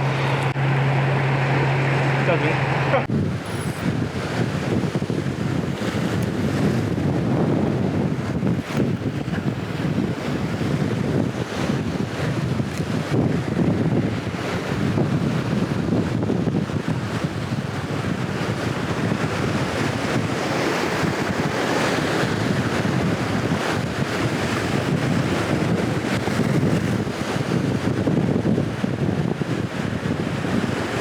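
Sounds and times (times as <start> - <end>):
sea waves breaking on shore: 0.0 - 31.0
wind buffeting microphone: 0.0 - 31.0.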